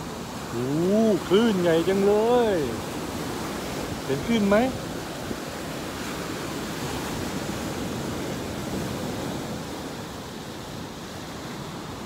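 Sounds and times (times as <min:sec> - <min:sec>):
waves breaking on beach: 0:00.0 - 0:12.0.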